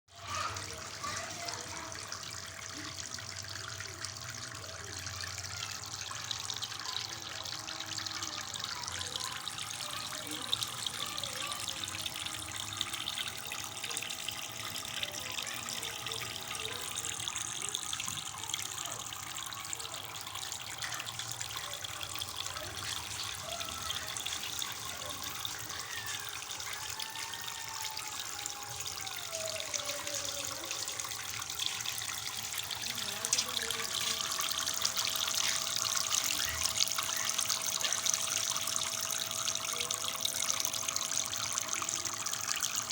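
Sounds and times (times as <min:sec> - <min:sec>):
fountain water trickling: 0:00.1 - 0:42.9.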